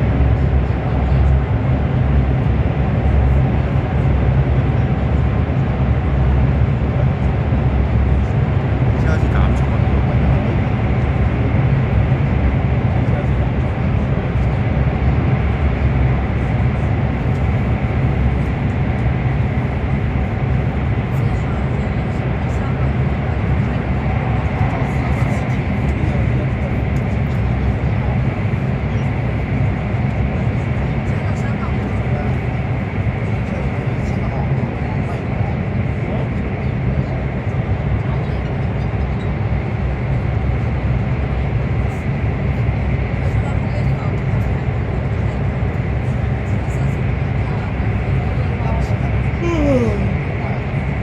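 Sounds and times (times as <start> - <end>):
train low rumble inside cabin: 0.0 - 51.0.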